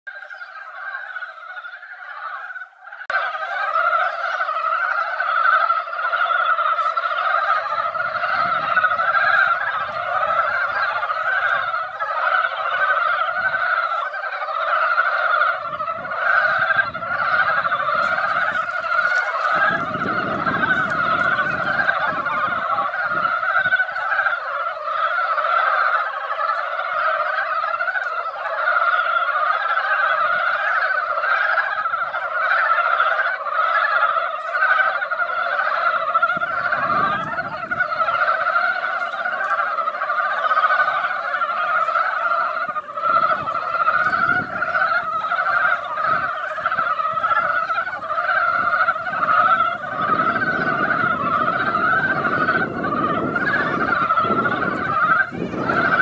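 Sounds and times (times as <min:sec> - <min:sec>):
chorus of frogs croaking: 0:00.0 - 0:56.0.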